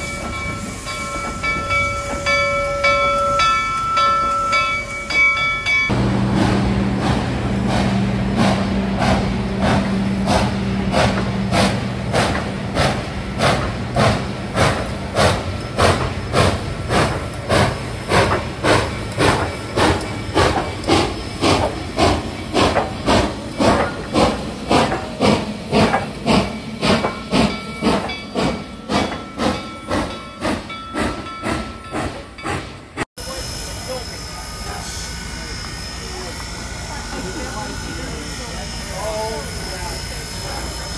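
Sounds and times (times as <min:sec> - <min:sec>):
hiss of steam: 0:00.0 - 0:03.0, 0:08.4 - 0:40.9
steam locomotive chuffing: 0:00.0 - 0:40.9.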